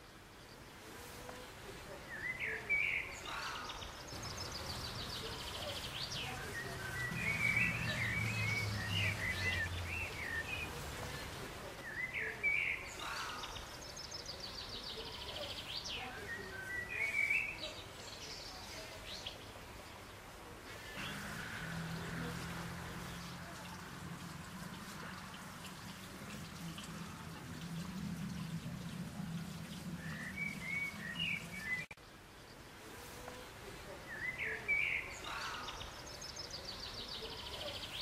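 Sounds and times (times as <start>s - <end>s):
faint low hum: 0.0s - 34.2s
songbird singing: 0.0s - 38.0s.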